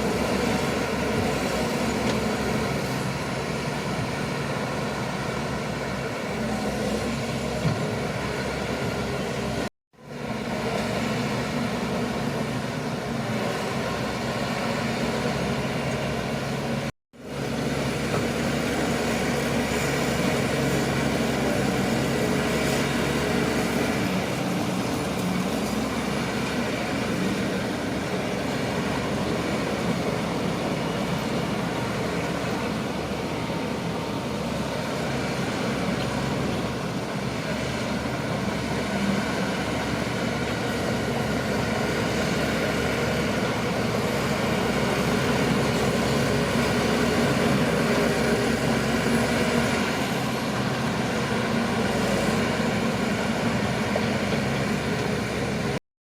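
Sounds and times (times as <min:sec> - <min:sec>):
bulldozer diesel engine running: 0:00.0 - 0:55.8.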